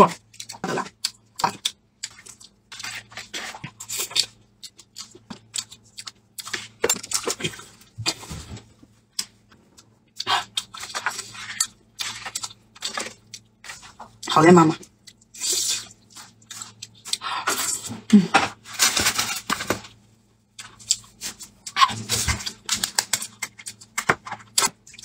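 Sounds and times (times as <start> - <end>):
biting and chewing: 0.0 - 25.0.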